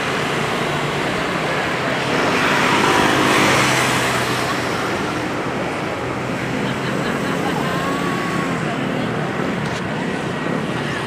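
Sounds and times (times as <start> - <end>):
road and wind noise: 0.0 - 11.0
two-stroke engine running: 0.0 - 11.0.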